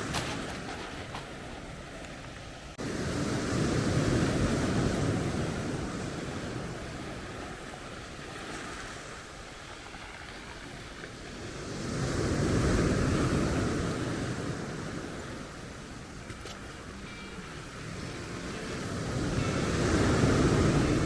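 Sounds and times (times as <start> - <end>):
waves washing onto shingle: 0.0 - 21.0.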